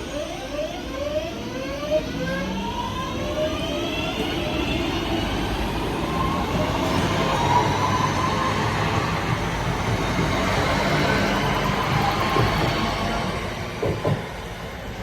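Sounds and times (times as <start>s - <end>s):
traction motors whining: 0.0s - 15.0s
train rumble: 0.0s - 15.0s.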